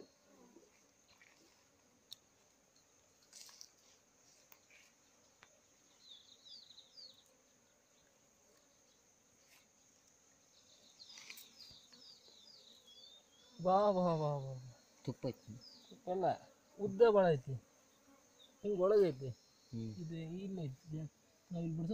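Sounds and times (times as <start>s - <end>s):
quick insect chirps: 0.0s - 21.9s.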